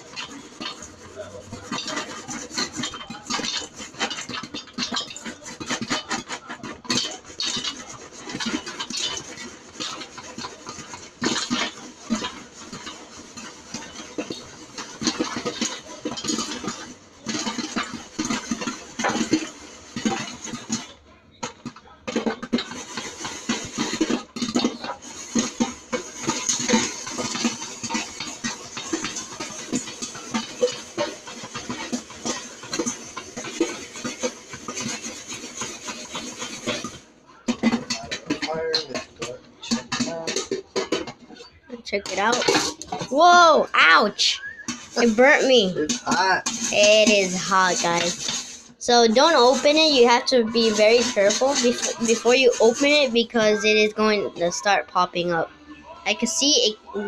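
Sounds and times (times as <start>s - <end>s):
popcorn popping in a pan: 0.0s - 57.0s.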